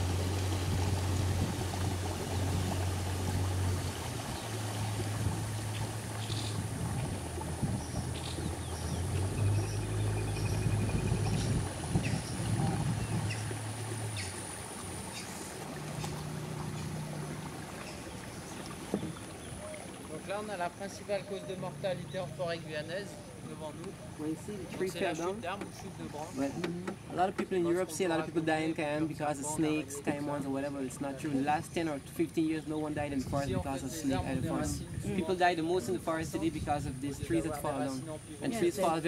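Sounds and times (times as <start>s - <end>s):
outboard motor running: 0.0s - 35.2s
water washing along hull: 0.0s - 39.0s.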